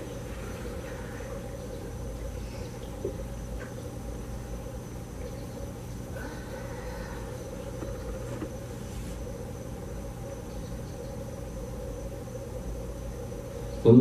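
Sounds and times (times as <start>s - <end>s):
faint high-pitched whine: 0.0s - 14.0s
low room hum: 0.0s - 14.0s.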